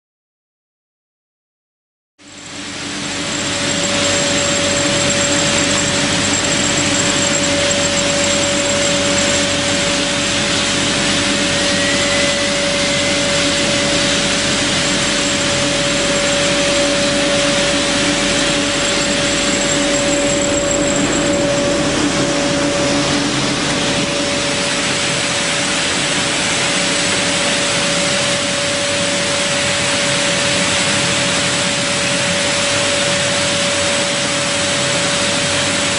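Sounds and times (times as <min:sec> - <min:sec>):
brush sanding machine whirring: 0:02.6 - 0:33.4.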